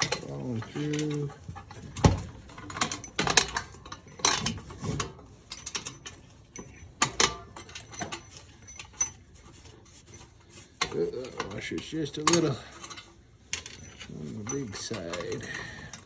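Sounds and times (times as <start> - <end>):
metal hardware clinking: 0.0 - 16.0.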